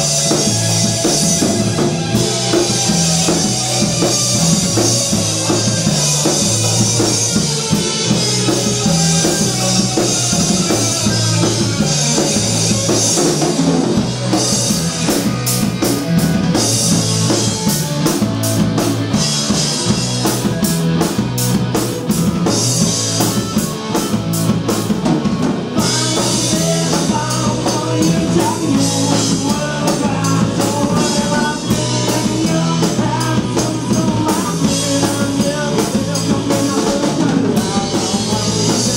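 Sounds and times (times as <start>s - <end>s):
drum and cymbal hits: 0.0s - 38.9s
rock band playing: 0.0s - 38.9s.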